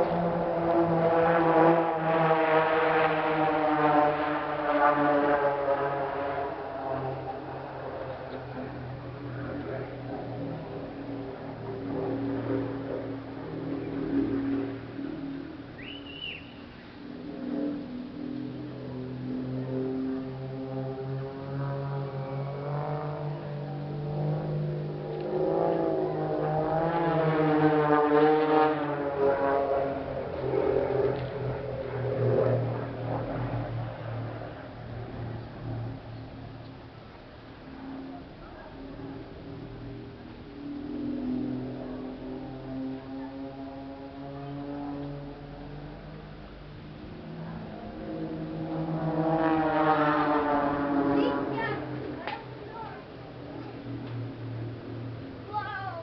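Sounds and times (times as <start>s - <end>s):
propeller airplane flying past: 0.0s - 56.0s.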